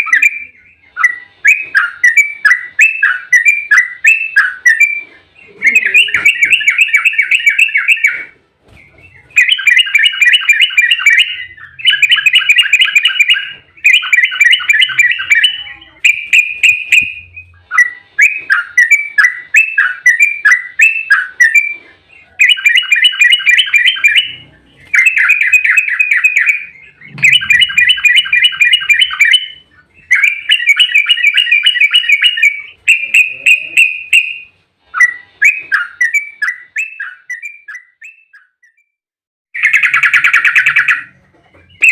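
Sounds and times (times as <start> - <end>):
bulbul singing rolling song: 0.0 - 38.9.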